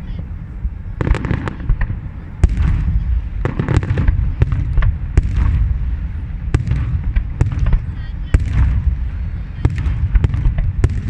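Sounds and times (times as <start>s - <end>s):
fireworks rumble: 0.0s - 11.0s.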